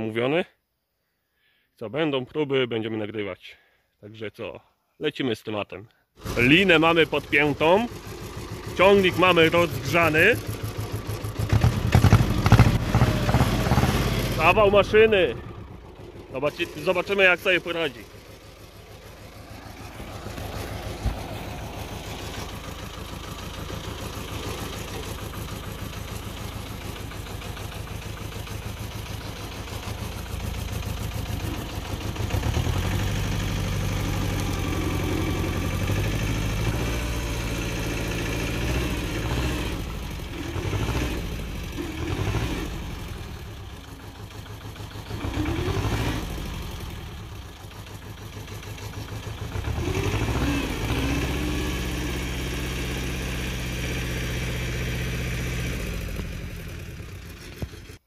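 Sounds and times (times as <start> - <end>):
tractor engine: 6.2 - 58.0.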